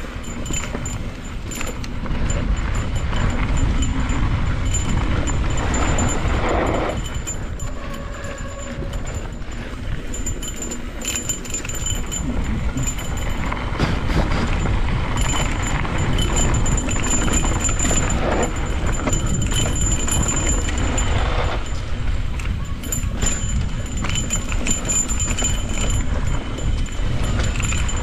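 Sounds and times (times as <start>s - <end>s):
bike rattling: 0.0s - 28.0s
wind rushing over microphone: 0.0s - 28.0s.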